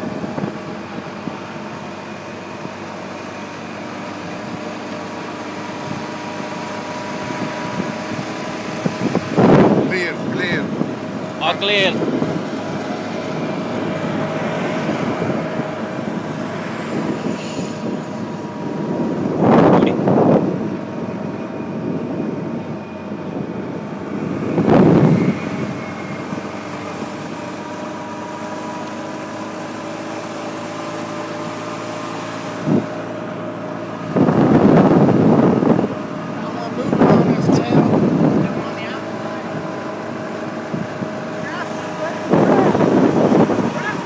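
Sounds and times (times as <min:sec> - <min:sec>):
golf cart driving: 0:00.0 - 0:44.0
wind on microphone: 0:00.0 - 0:44.0.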